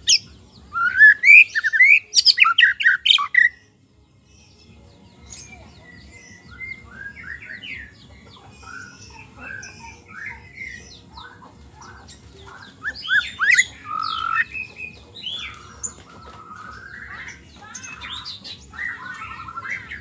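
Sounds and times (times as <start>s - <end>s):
bird song with whistles and trills: 0.0s - 20.0s.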